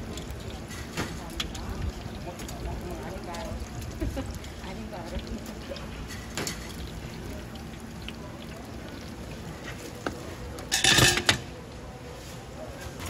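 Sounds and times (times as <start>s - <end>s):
frying oil sizzling: 0.0s - 11.7s.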